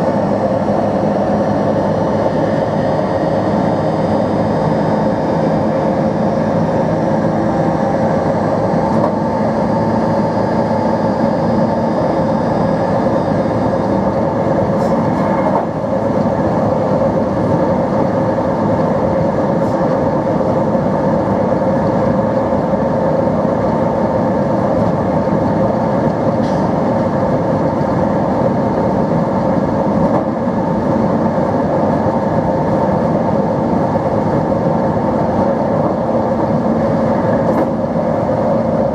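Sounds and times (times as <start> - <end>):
train diesel engine humming: 0.0 - 38.9.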